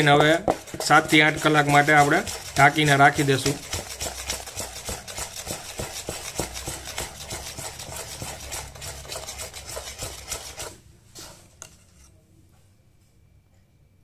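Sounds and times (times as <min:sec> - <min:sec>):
metal spoon stirring batter: 0:00.0 - 0:12.2.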